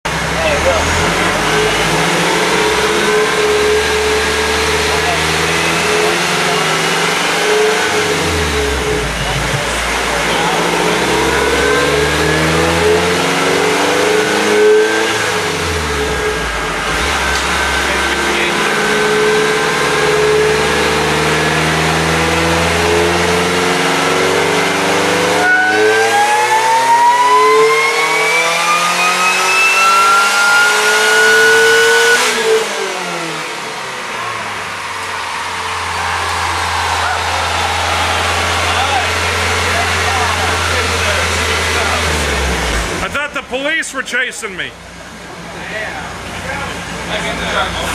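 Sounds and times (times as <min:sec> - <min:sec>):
supercharger whine: 0:00.1 - 0:43.4
car engine revving: 0:00.1 - 0:47.9.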